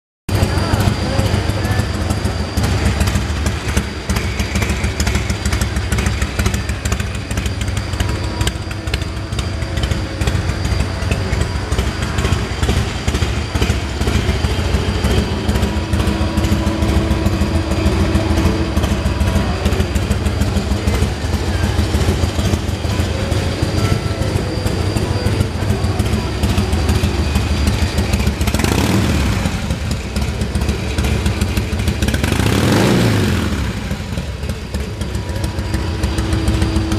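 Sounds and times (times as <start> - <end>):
motorcycle engine idling: 0.3 - 36.9.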